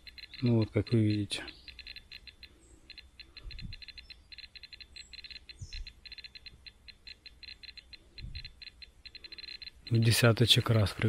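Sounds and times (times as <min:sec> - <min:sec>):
dosimeter high beeps: 0:00.0 - 0:10.7.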